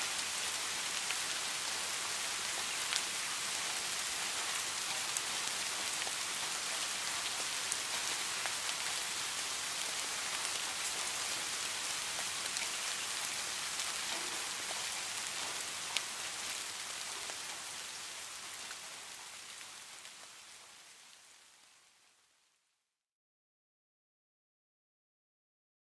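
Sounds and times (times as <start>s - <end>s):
steady rain hiss: 0.0s - 22.7s.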